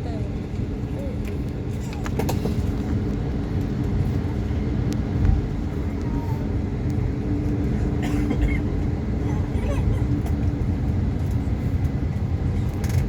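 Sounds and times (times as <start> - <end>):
airplane cabin engine hum: 0.0 - 13.0.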